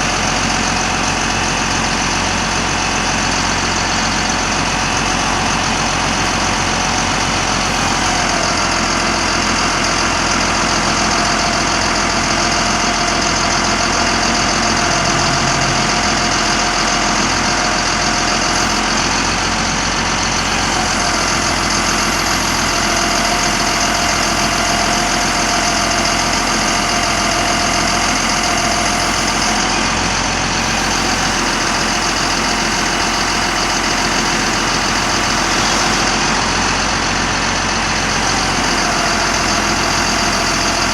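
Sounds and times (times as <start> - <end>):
diesel engine idling: 0.0 - 40.9
thin whine: 6.2 - 36.6, 37.9 - 40.9.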